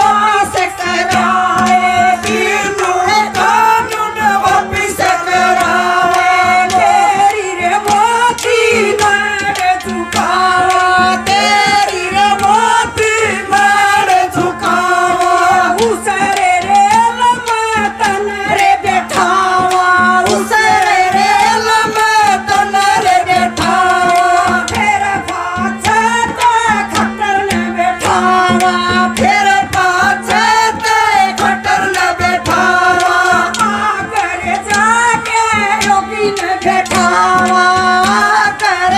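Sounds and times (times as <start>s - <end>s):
drums keeping steady beat: 0.0s - 38.9s
woman singing folk song: 0.0s - 38.9s.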